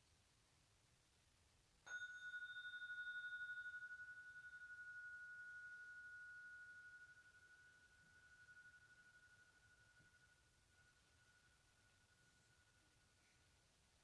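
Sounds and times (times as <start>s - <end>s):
tuning fork ringing: 1.8s - 13.6s.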